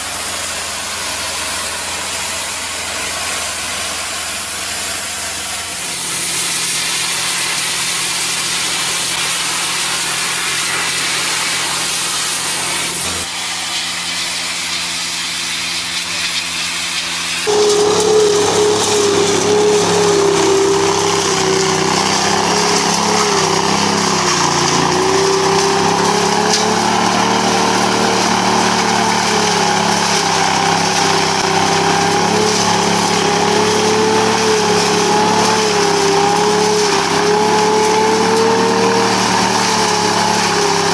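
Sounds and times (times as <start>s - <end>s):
leaf vacuum engine and fan humming: 0.0s - 40.9s
pressure washer spray hissing: 0.0s - 40.9s.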